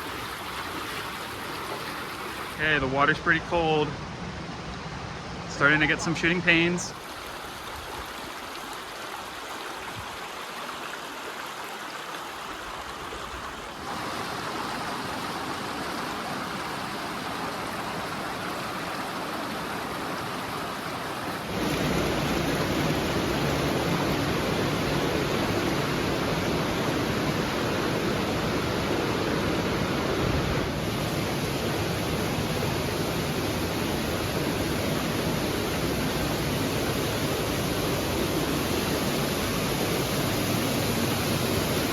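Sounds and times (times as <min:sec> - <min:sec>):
creek water rushing: 0:00.0 - 0:41.9.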